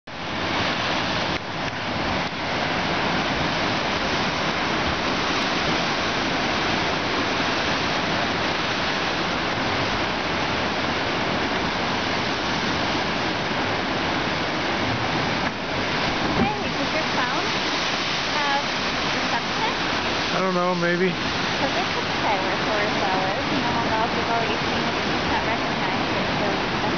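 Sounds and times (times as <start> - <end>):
surf rushing through rocks: 0.1 - 26.9.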